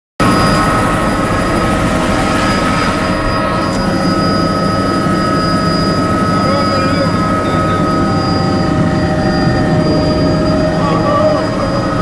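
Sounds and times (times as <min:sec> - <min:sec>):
helicopter engine and rotor drone: 0:00.2 - 0:12.0
high steady whining tones: 0:00.2 - 0:12.0.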